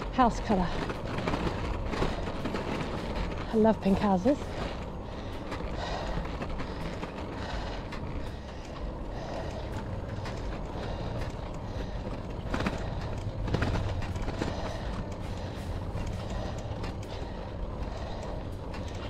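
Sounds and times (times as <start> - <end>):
bicycle tyre noise: 0.0 - 19.0.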